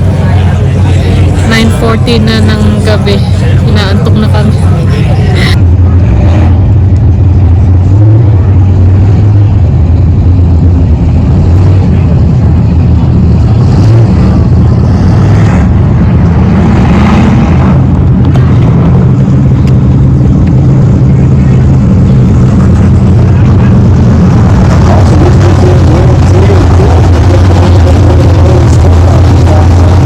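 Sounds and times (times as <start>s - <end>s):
race car engines roaring: 0.0s - 30.0s.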